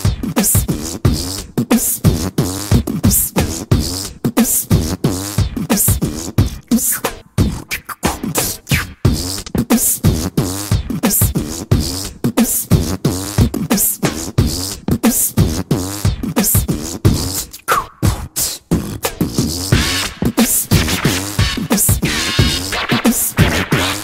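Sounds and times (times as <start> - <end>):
beatboxing hip-hop music: 0.0 - 24.0.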